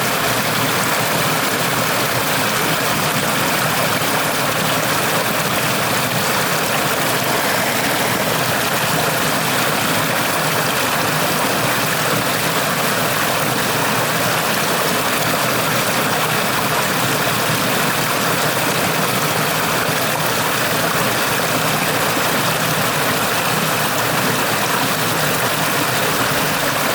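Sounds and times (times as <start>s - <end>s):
stream water flowing: 0.0s - 26.9s.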